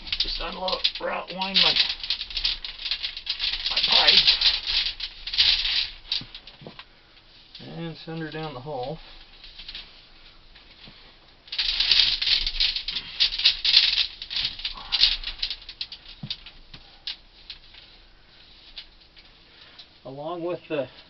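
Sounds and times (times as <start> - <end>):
tubing rattling and scraping: 0.0 - 6.9, 7.5 - 21.0.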